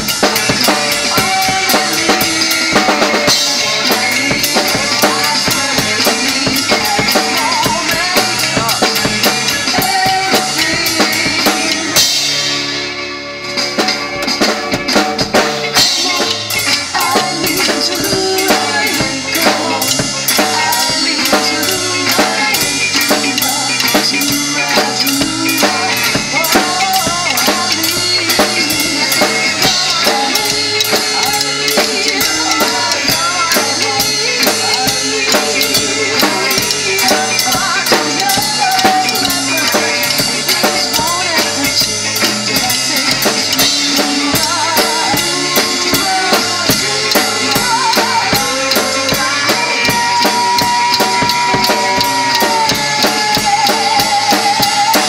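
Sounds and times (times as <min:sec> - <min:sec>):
drum kit playing rock beat: 0:00.0 - 0:55.0
recorded band song: 0:00.0 - 0:55.0.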